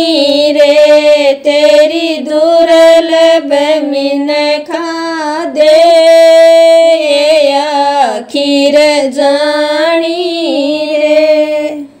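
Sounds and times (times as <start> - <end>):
woman singing folk song: 0.0 - 11.9.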